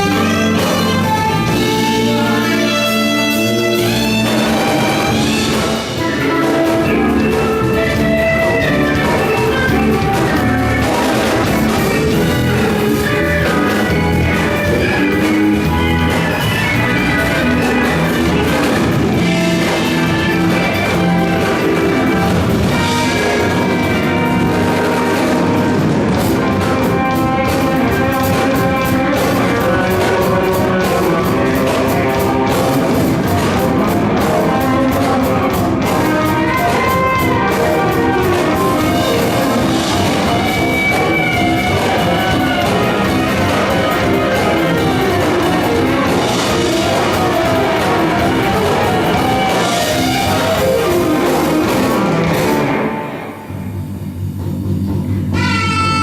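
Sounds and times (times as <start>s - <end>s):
rock band with guitar and drums: 0.0s - 56.0s.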